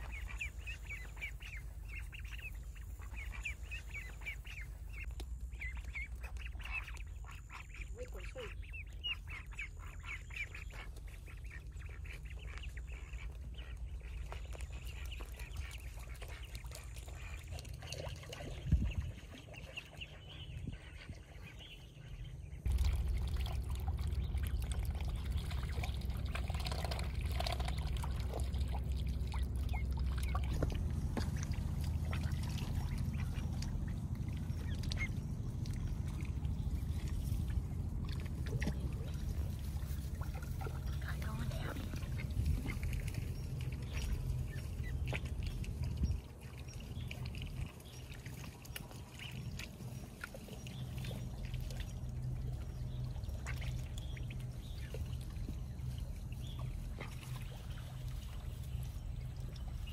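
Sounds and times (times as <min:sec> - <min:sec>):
ducks calling: 0:00.0 - 0:59.9
low rumble: 0:00.0 - 0:59.9.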